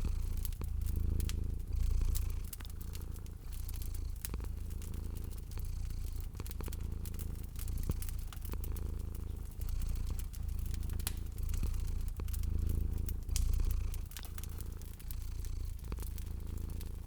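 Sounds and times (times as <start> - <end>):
cat purring: 0.0 - 17.0
fire crackling and popping: 0.0 - 17.0.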